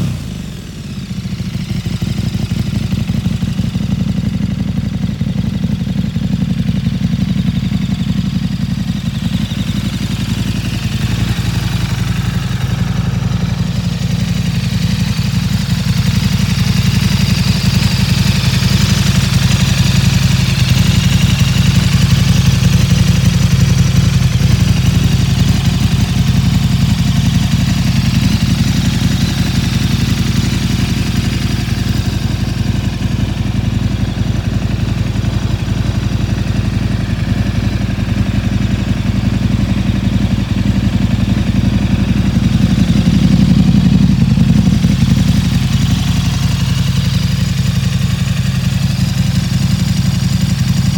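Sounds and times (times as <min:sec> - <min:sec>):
motorcycle engine idling: 0:00.0 - 0:50.9.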